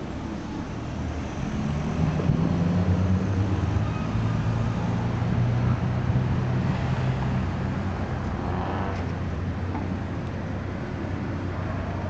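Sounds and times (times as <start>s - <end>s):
road traffic noise: 0.0s - 12.0s
vehicle engine humming: 0.0s - 12.0s.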